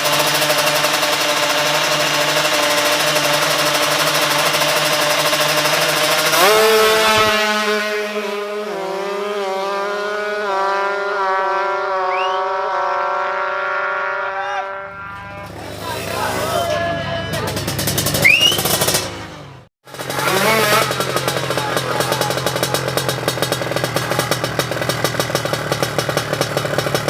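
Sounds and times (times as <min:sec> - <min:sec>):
racing motorcycle engines revving: 0:00.0 - 0:27.0.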